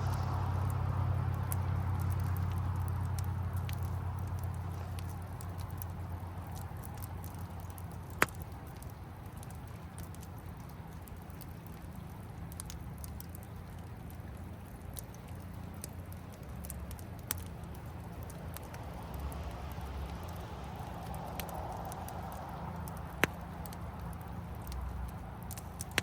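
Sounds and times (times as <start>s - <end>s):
campfire crackling: 0.0s - 26.0s
fire popping: 0.0s - 26.0s.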